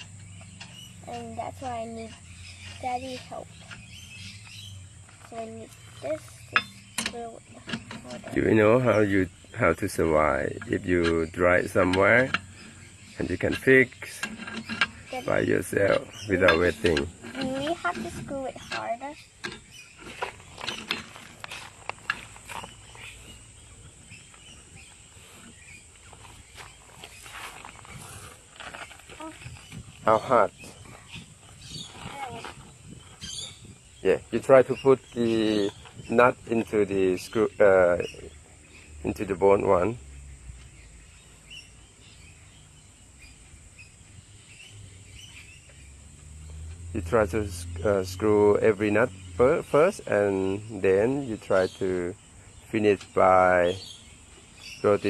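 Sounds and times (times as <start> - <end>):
bird chirps: 0.0 - 55.0.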